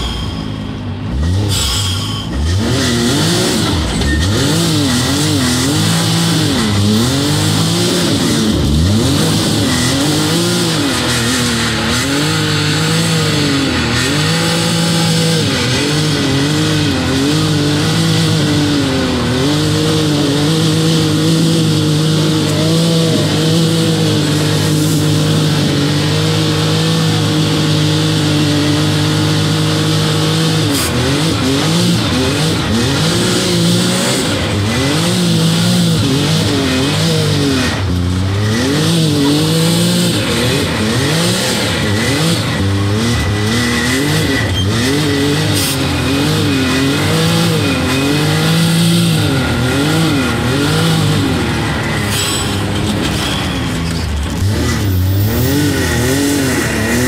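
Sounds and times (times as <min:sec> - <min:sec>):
turbocharged engine revving: 0:00.0 - 0:57.0.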